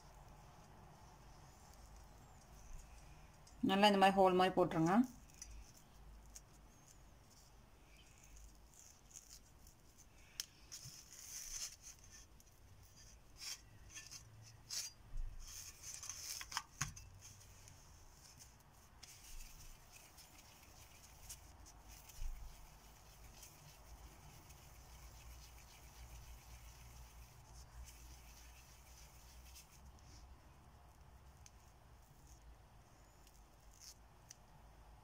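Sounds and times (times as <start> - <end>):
hands rubbing dough: 0.0 - 32.6.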